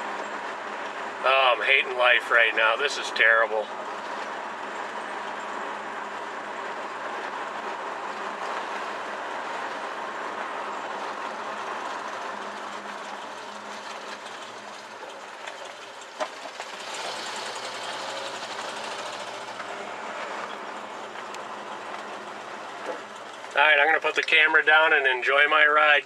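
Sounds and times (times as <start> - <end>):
car engine road and wind noise: 0.0 - 26.0.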